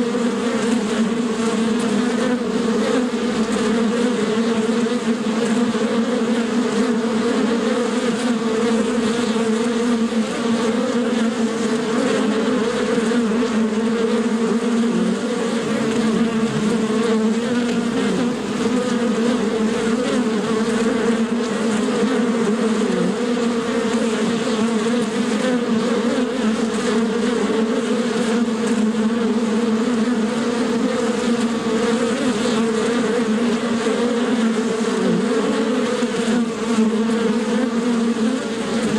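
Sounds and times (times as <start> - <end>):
bee buzzing in flight: 0.0 - 38.9.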